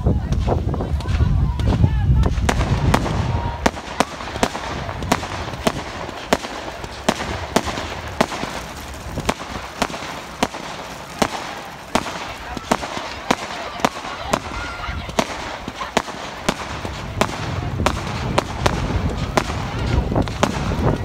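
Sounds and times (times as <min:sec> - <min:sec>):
deep fireworks boom: 0:00.0 - 0:21.0
fireworks bangs and cracks: 0:00.0 - 0:21.0.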